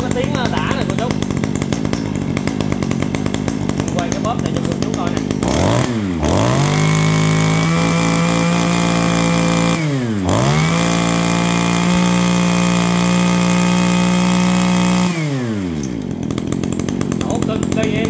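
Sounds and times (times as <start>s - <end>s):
brush cutter engine revving: 0.0s - 18.0s.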